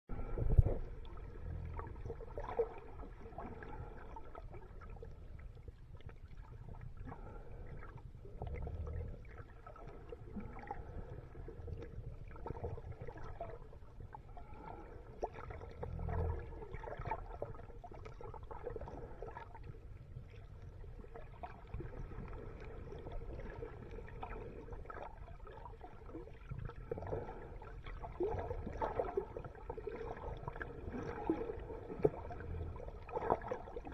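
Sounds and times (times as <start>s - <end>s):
faint steady hum: 0.1s - 33.9s
underwater rumble of moving water: 0.1s - 33.9s
underwater clicks and crackles: 0.2s - 33.9s.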